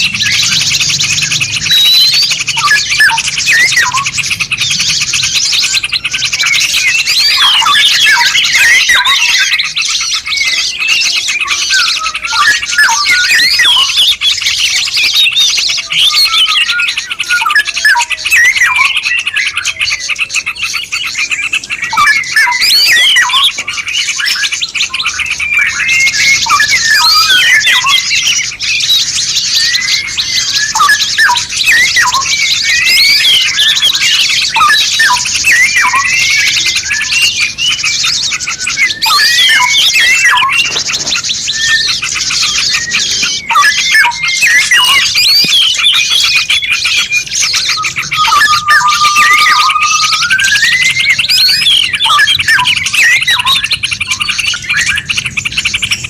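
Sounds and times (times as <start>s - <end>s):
songbird chorus: 0.0s - 56.0s.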